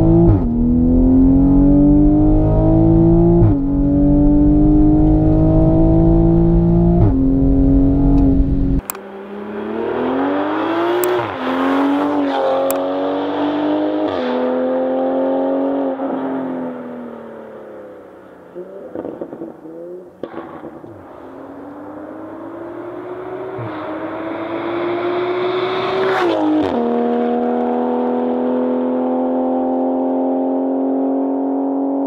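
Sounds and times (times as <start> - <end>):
car engine accelerating hard: 0.0 - 16.6, 18.5 - 32.0.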